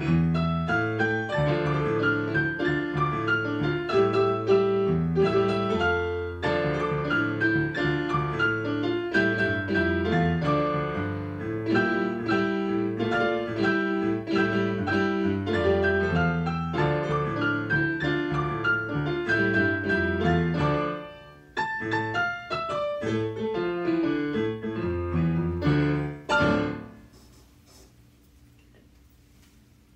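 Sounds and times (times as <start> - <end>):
digital pianos playing together: 0.0 - 27.1.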